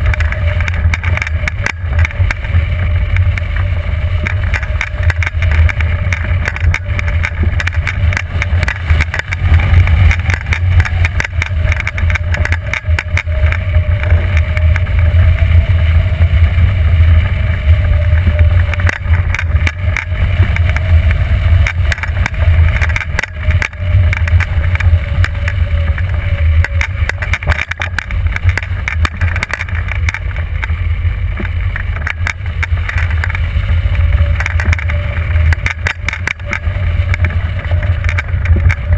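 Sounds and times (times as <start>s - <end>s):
faint wavering hum: 0.0s - 38.9s
wind rumbling on microphone: 0.0s - 38.9s.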